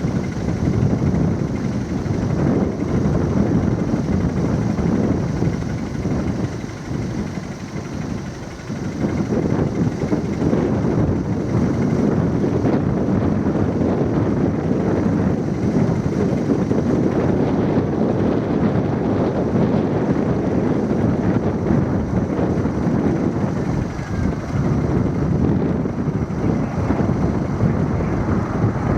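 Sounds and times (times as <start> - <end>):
jet engines running: 0.0 - 28.9
steady high whine: 0.0 - 28.9
wind buffeting microphone: 0.0 - 28.9.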